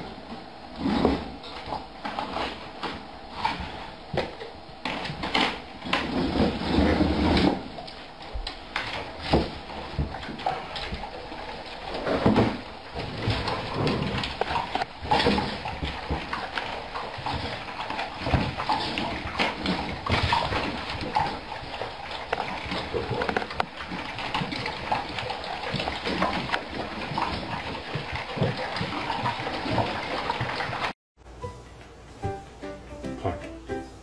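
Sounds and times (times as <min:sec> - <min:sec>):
dogs chewing and slurping: 0:00.0 - 0:31.0.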